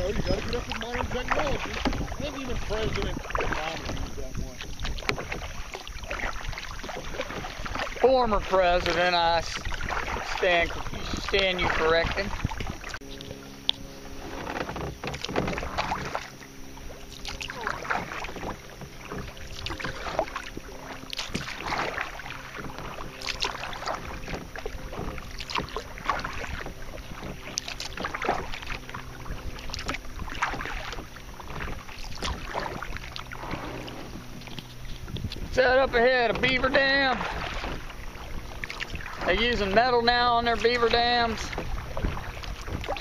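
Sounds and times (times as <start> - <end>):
paddle splashing in water: 0.0 - 43.0.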